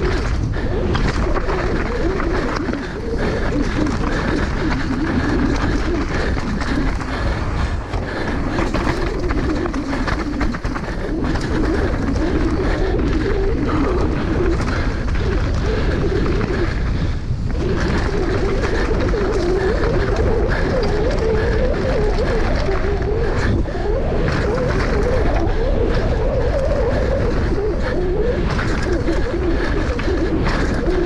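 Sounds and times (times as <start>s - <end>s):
bike rattling and clattering: 0.0s - 31.0s
tyre hum: 0.0s - 31.0s
wind rumble on microphone: 0.0s - 31.0s.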